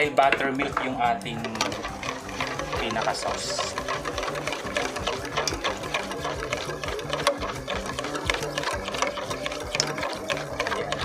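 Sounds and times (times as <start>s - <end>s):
whisk clicking in metal bowl: 0.0s - 11.0s.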